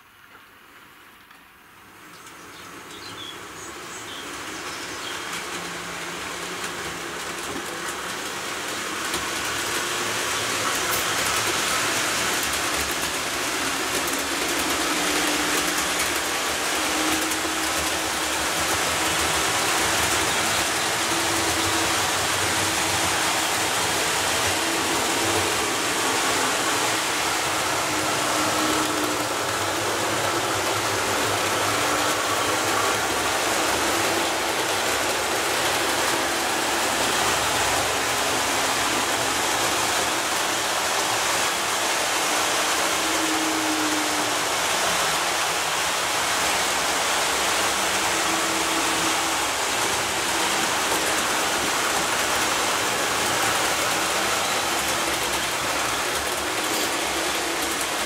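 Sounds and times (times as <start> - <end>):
model train rolling on track: 0.0 - 58.0.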